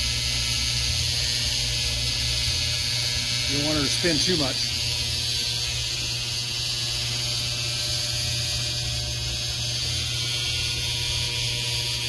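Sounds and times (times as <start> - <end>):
machine hum with high hiss: 0.0 - 12.0.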